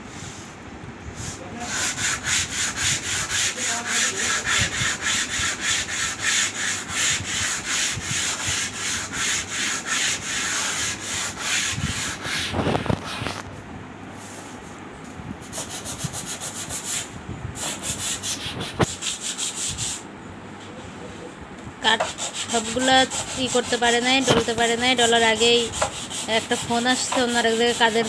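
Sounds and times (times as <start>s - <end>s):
sandpaper rasping on wood: 1.2s - 13.4s, 15.4s - 20.0s, 21.8s - 28.0s.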